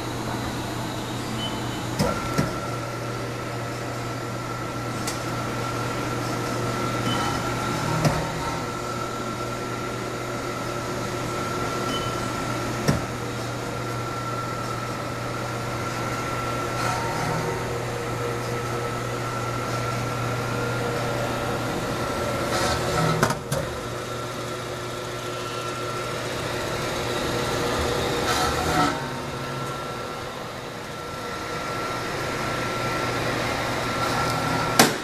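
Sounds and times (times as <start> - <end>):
mixer motor hum and whine: 0.0 - 35.0.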